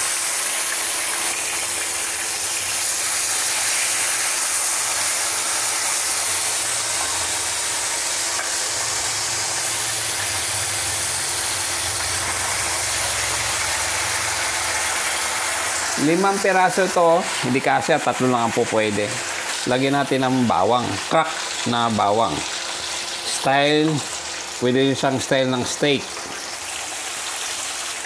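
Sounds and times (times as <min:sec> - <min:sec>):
pork chops sizzling in a frying pan: 0:00.0 - 0:28.0.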